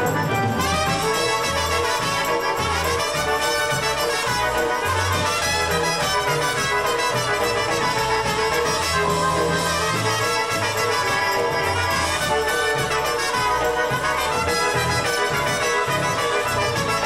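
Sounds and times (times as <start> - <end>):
bass beat: 0.0 - 17.0
polka band playing: 0.0 - 17.0
trumpets: 0.0 - 17.0.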